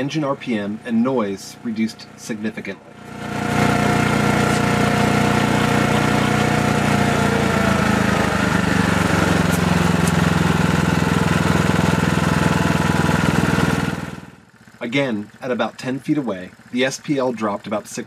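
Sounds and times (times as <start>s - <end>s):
generator engine running: 0.0s - 18.0s.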